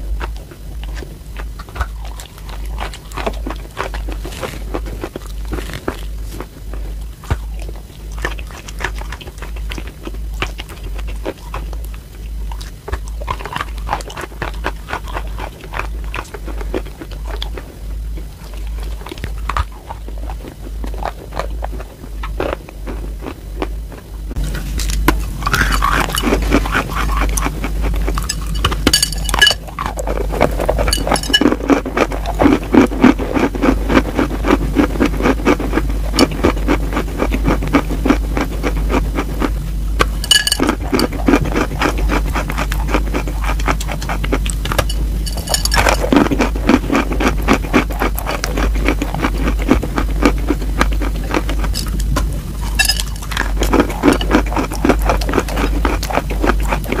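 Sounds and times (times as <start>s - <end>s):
chewing chalk crunches: 0.0s - 57.0s.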